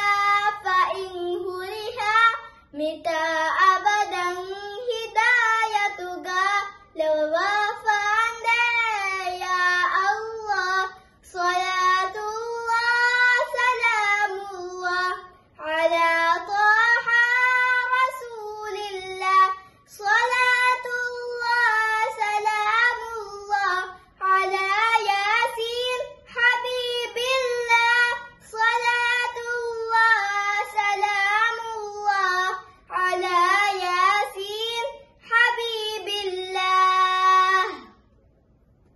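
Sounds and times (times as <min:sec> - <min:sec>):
girl singing unaccompanied: 0:00.0 - 0:38.1.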